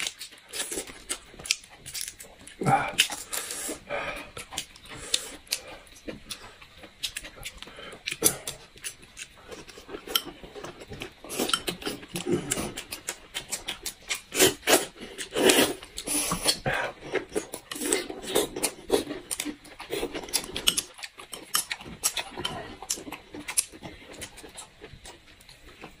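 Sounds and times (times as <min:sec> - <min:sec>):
wet chewing and slurping: 0:00.0 - 0:26.0.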